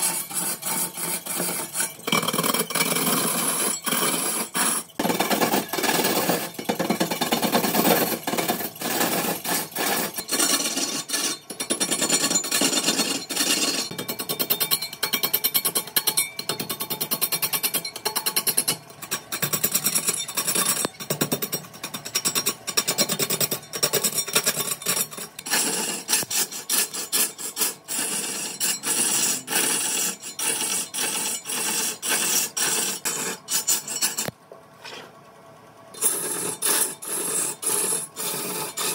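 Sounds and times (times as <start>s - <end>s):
lathe tool scraping wood: 0.0s - 13.9s, 18.4s - 35.2s, 36.0s - 38.9s.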